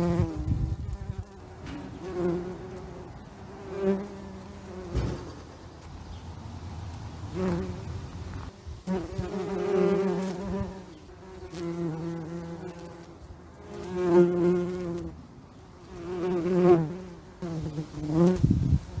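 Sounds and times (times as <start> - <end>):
bees buzzing in flight: 0.0 - 5.9, 7.3 - 15.2, 15.8 - 19.0.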